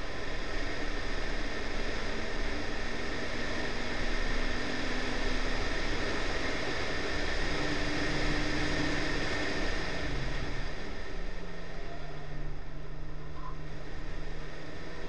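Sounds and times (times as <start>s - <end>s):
faint car engine: 0.0s - 15.0s
road and tyre noise: 0.0s - 15.0s.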